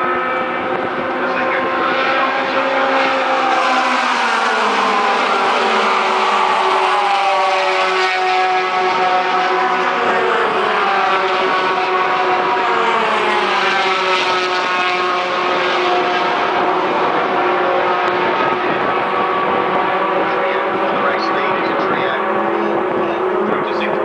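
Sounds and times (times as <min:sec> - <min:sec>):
racing truck engines passing: 0:00.0 - 0:24.0.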